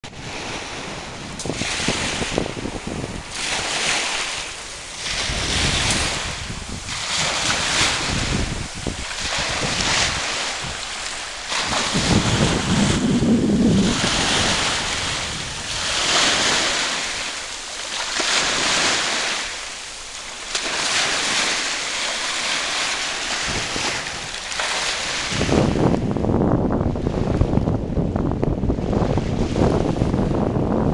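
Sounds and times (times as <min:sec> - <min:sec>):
wind buffeting microphone: 0:00.0 - 0:17.5, 0:20.6 - 0:30.9
small waves washing on shore: 0:00.0 - 0:30.9.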